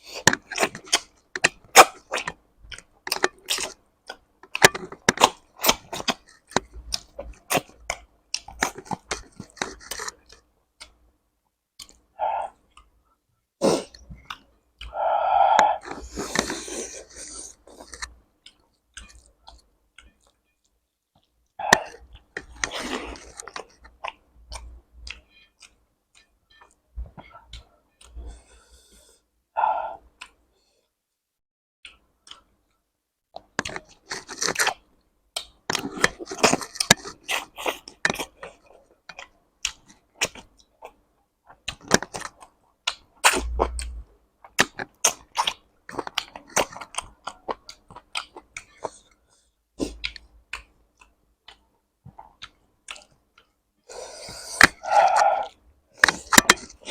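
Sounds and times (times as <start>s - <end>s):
person chewing food: 0.0s - 11.1s, 11.8s - 29.2s, 29.9s - 30.7s, 31.8s - 56.9s.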